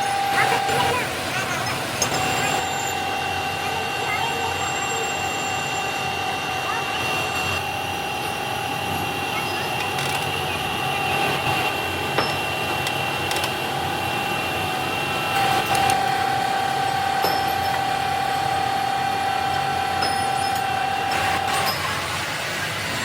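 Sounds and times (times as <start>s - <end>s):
factory machinery humming and whining: 0.0s - 23.0s.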